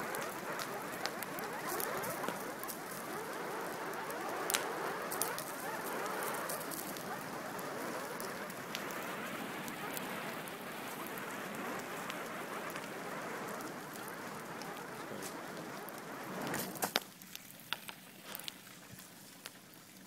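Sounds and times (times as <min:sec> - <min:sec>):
fire burning with rushing hiss: 0:00.0 - 0:20.0
fire crackling pops: 0:00.0 - 0:20.0.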